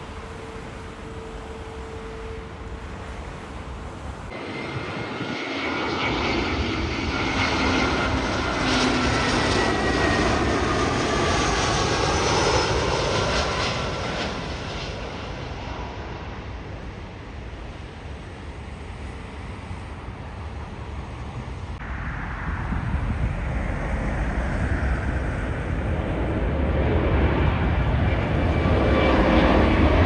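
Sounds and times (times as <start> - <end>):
jet airliner passing by: 0.0 - 30.0
jet engine whine falling in pitch: 0.0 - 30.0.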